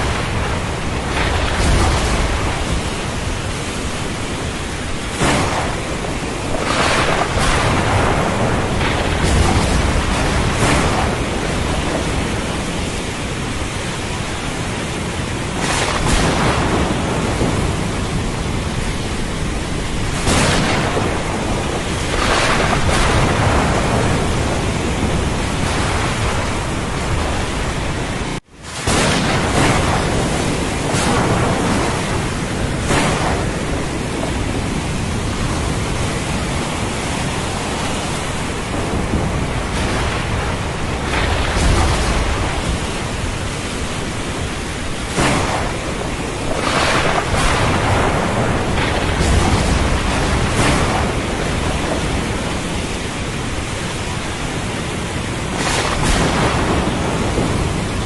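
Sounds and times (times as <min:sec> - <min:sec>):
heavy rain: 0:00.0 - 0:58.0
low rolling thunder: 0:00.0 - 0:58.0
surf: 0:00.0 - 0:58.0.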